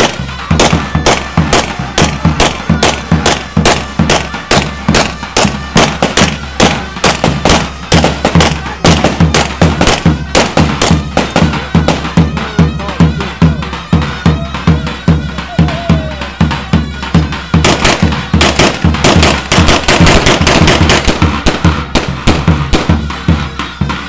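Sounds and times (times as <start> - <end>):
bass drum dance rhythm: 0.0 - 24.0.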